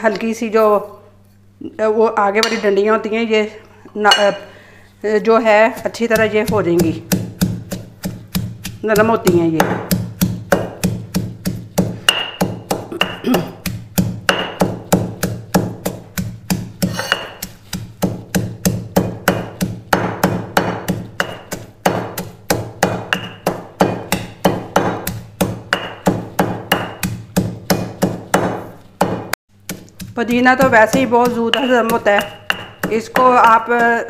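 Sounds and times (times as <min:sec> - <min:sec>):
stone pestle pounding in mortar: 0:05.5 - 0:34.0.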